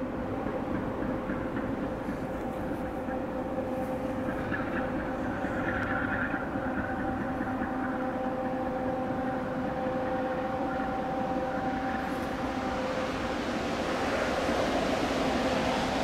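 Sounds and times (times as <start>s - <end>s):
droning hum of several tones: 0.0s - 16.0s
freight train rumble: 0.0s - 16.0s.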